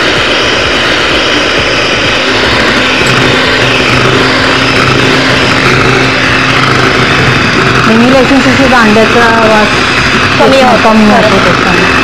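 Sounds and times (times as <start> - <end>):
electric hand mixer whisking: 0.0 - 12.0
low motor hum: 0.0 - 12.0.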